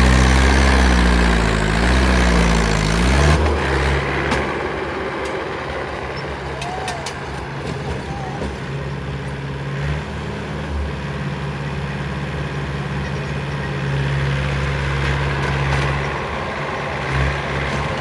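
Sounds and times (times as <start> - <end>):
backhoe diesel engine: 0.0 - 18.0
tractor diesel engine: 0.0 - 18.0.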